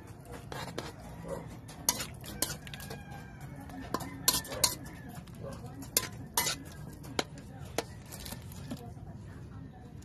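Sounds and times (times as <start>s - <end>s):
metal spoon scraping wok: 0.0s - 8.8s.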